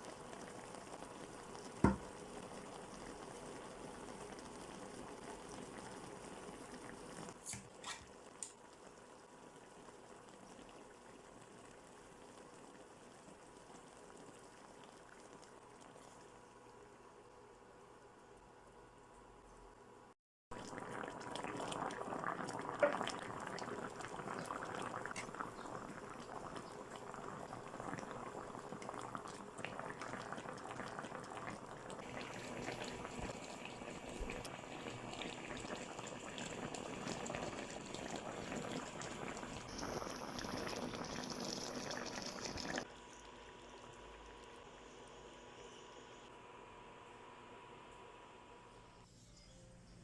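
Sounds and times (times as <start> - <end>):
sauce bubbling in a pan: 0.0 - 7.4, 8.1 - 17.5, 20.5 - 46.2.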